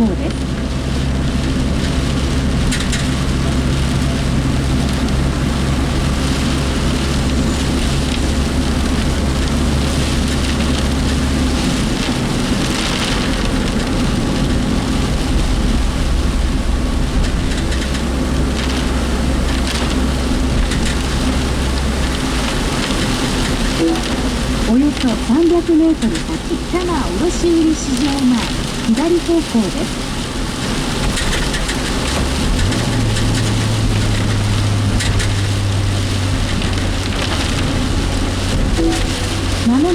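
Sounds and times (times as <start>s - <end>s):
engine and road noise: 0.0s - 39.9s
heavy rain drumming on vehicle: 0.0s - 39.9s
vehicle rattling: 0.0s - 39.9s.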